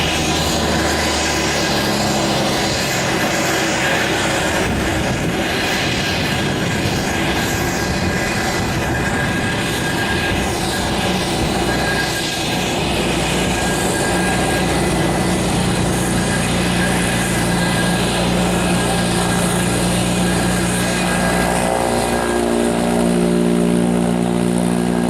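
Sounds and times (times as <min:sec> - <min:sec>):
aircraft engines roaring: 0:00.0 - 0:25.0
high whine tones: 0:00.0 - 0:25.0.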